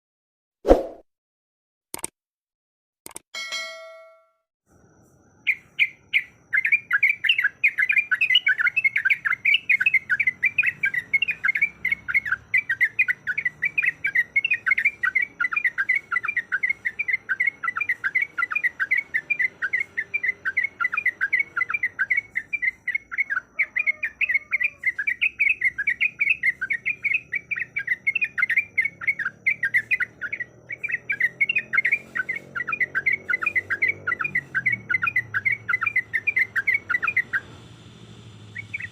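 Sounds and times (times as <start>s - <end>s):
bulbul singing chattering song: 5.4s - 38.9s.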